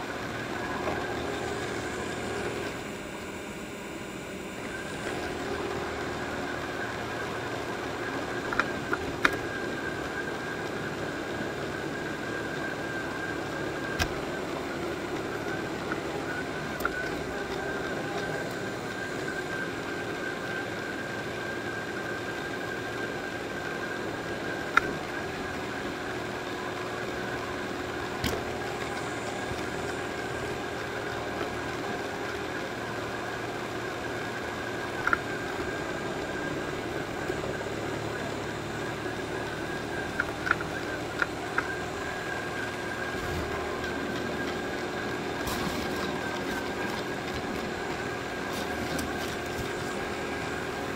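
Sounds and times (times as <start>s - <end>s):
constant high tone: 0.0s - 50.9s
robot vacuum whirring: 0.4s - 20.7s, 27.0s - 50.9s.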